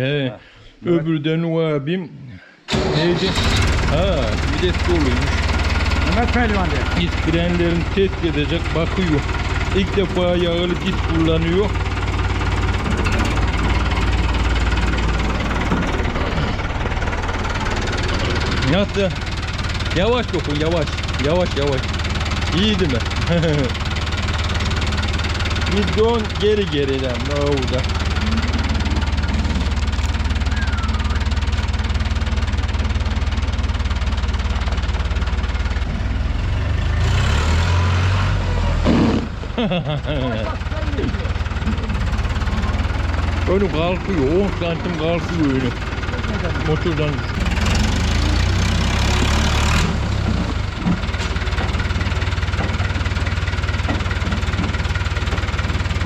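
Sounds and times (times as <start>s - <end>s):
tractor diesel engine running: 2.7s - 56.0s.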